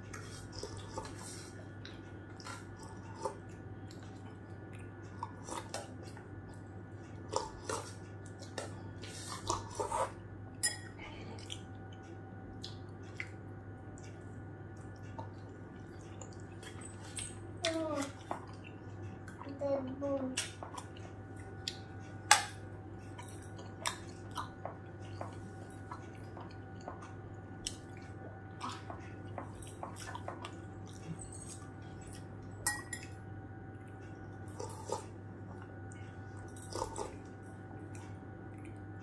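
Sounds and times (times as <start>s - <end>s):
person chewing food: 0.0s - 10.2s, 11.3s - 19.5s, 20.6s - 39.0s.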